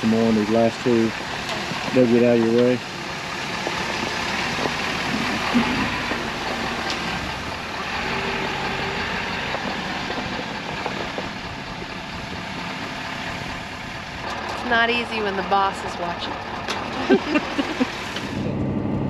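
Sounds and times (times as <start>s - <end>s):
pickup truck engine running: 0.0s - 19.0s.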